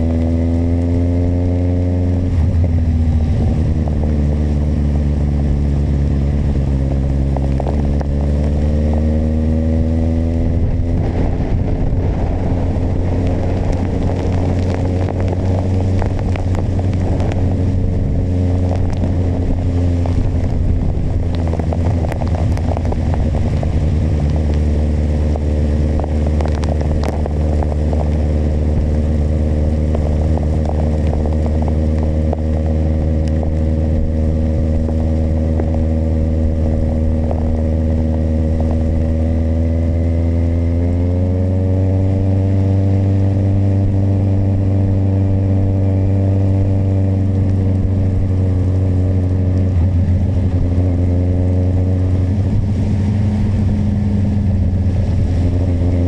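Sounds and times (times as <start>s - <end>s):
motorcycle engine cruising: 0.0s - 56.0s
crackling and ticking: 3.8s - 9.1s, 9.9s - 40.8s, 42.0s - 56.0s.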